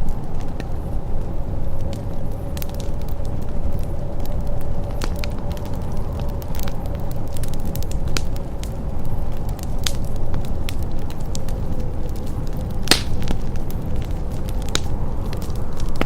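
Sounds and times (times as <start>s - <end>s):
fireplace crackling: 0.0s - 16.0s
sharp pops of fire: 2.6s - 16.0s.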